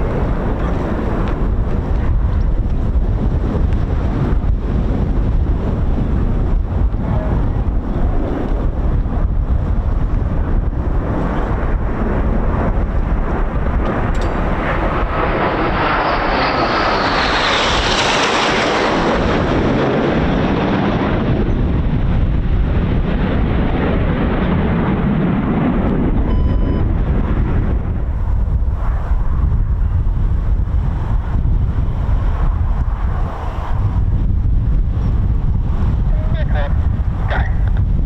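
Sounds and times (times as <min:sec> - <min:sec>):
jet flying past: 0:00.0 - 0:38.0
wind buffeting microphone: 0:00.0 - 0:38.0.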